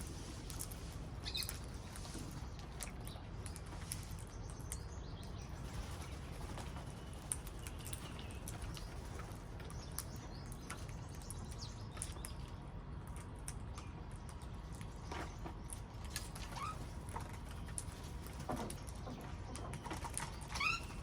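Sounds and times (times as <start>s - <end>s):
parrots chirping and clicking: 0.4s - 21.0s.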